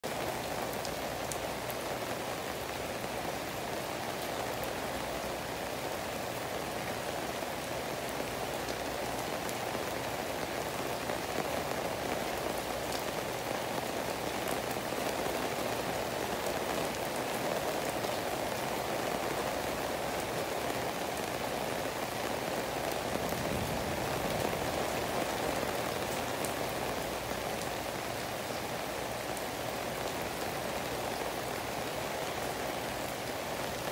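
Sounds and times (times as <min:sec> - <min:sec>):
rain falling on foliage: 0:00.0 - 0:33.9.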